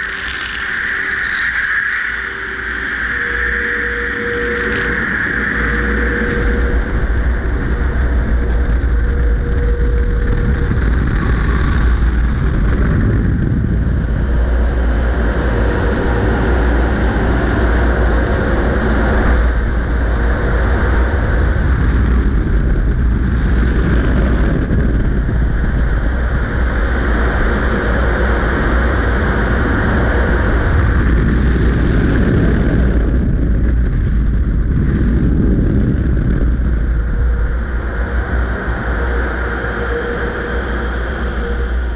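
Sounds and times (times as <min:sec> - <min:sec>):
dryer blowers rushing air: 0:00.0 - 0:41.9
wind buffeting on microphone: 0:00.0 - 0:41.9.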